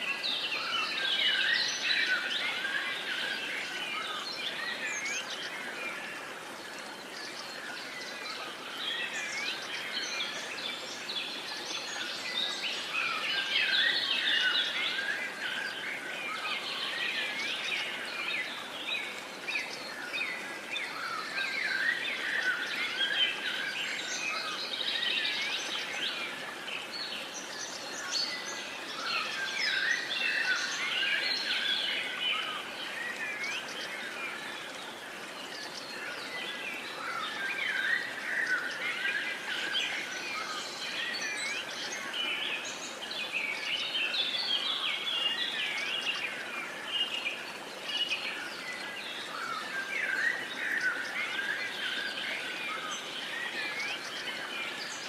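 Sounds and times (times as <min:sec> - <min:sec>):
faint steady hiss: 0:00.0 - 0:55.0
small birds chirping and singing: 0:00.0 - 0:55.0.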